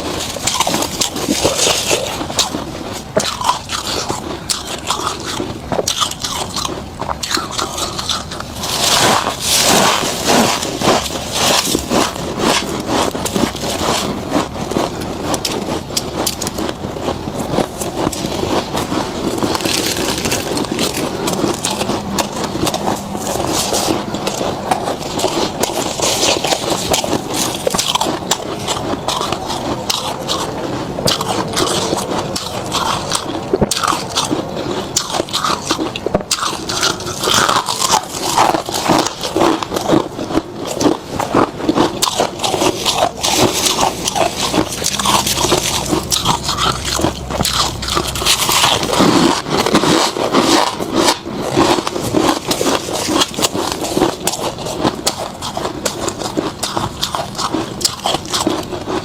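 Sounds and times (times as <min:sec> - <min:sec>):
crunching frost being chewed: 0:00.0 - 0:59.0.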